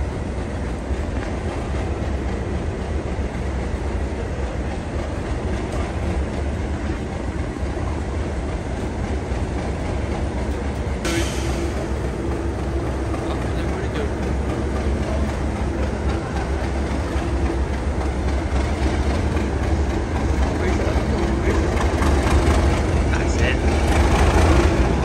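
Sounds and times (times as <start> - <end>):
diesel locomotive engines rumbling: 0.0 - 25.0.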